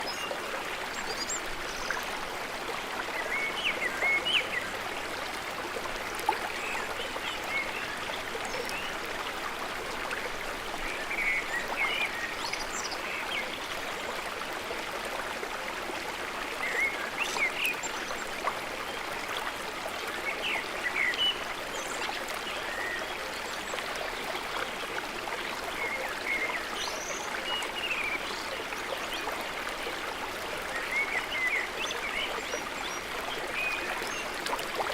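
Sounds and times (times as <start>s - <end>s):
flowing stream: 0.0s - 34.9s.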